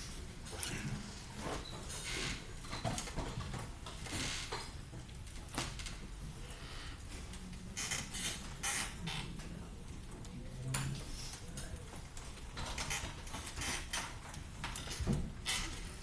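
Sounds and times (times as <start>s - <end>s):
rustles and creaks: 0.0s - 16.0s.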